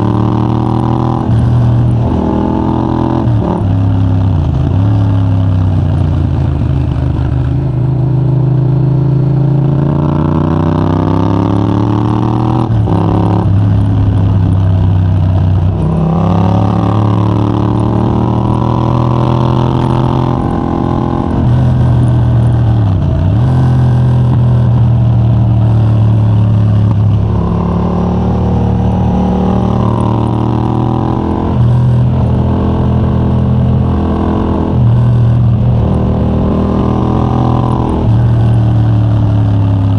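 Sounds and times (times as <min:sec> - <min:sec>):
gear changes: 0:00.0 - 0:39.9
motorcycle engine accelerating: 0:00.0 - 0:39.9.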